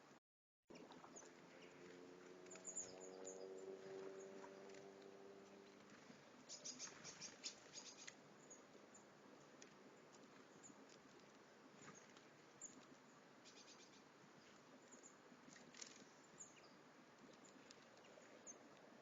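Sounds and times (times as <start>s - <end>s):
low multi-tone hum: 0.0s - 19.0s
small birds chirping: 0.7s - 19.0s.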